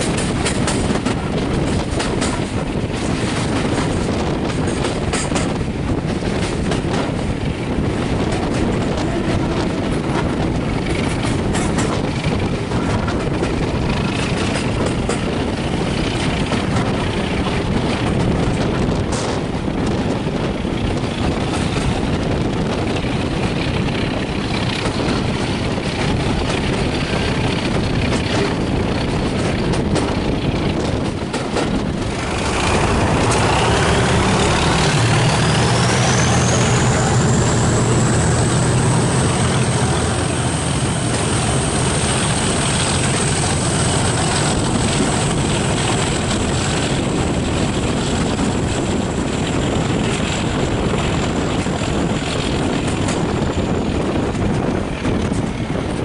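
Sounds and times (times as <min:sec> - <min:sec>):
rushing air: 0:00.0 - 0:56.0
train wheels rumbling on rails: 0:00.0 - 0:56.0.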